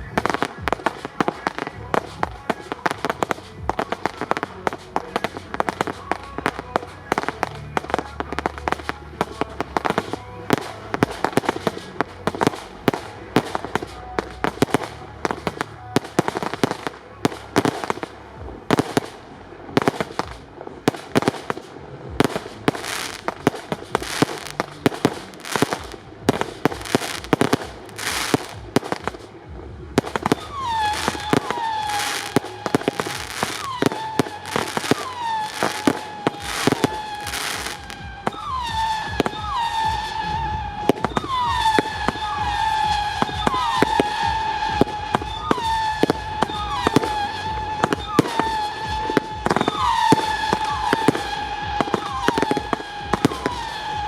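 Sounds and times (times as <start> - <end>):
fireworks bangs and crackling: 0.0 - 54.0
fireworks whistles: 0.0 - 54.0.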